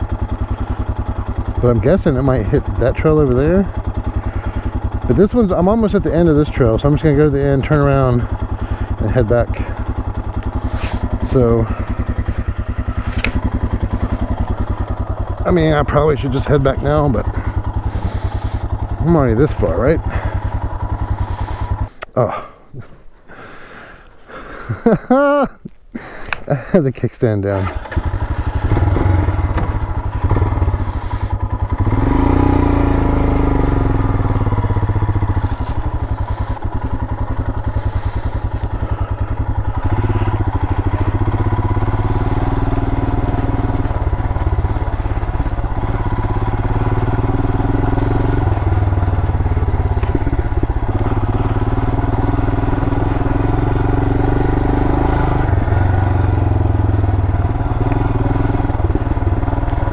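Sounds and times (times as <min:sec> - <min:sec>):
motorcycle engine running: 0:00.0 - 0:25.6, 0:26.4 - 0:59.9.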